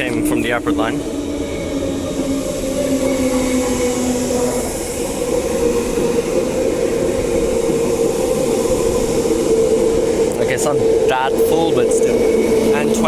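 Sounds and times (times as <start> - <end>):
electric train motor hum: 0.0 - 13.0.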